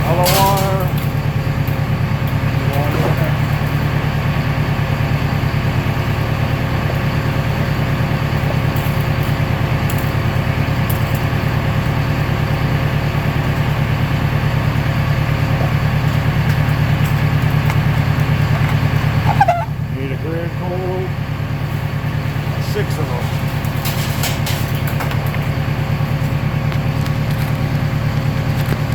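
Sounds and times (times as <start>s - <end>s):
baler machine humming and throbbing: 0.0s - 28.9s.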